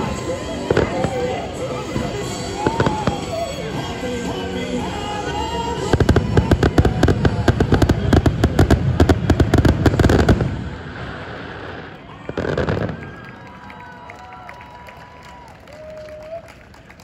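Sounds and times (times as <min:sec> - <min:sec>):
fireworks bangs and crackles: 0:00.0 - 0:13.7.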